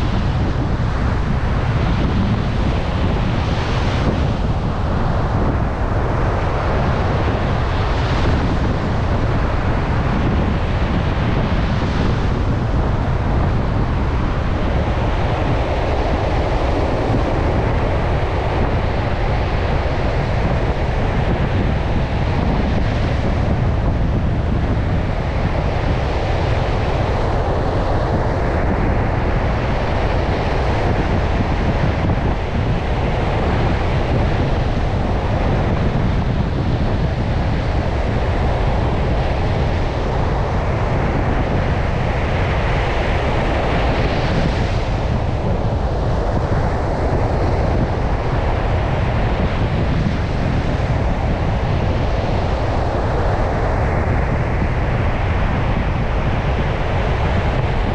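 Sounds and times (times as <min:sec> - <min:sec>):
surf breaking on a beach: 0:00.0 - 0:57.9
wind buffeting microphone: 0:00.0 - 0:57.9.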